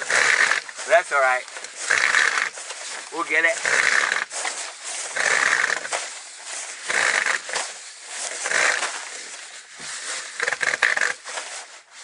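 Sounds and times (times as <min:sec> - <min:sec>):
plastic pipe scraping on sheeting: 0:00.0 - 0:12.0.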